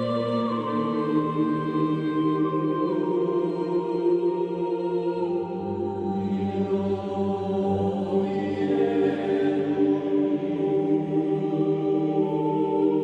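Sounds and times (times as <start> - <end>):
choir voices chanting: 0.0 - 13.0.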